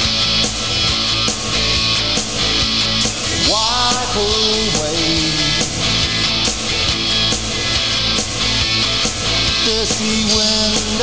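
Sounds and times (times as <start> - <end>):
rock music with steady beat: 0.0 - 11.0.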